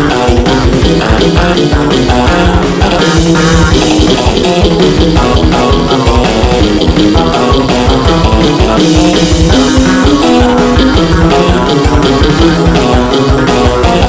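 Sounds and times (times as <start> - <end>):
loud rock music: 0.0 - 14.0
quick steady drum beat: 0.0 - 14.0.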